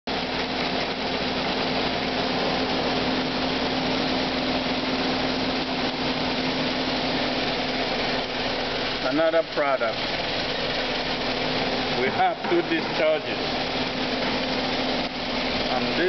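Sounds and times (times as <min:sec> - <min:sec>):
machine hum: 0:00.1 - 0:16.0.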